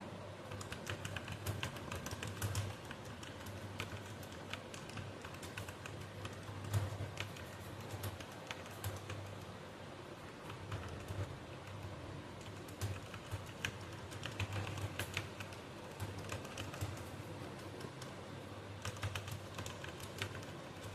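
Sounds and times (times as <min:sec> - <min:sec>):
computer keyboard typing: 0:00.4 - 0:09.6, 0:10.3 - 0:20.9.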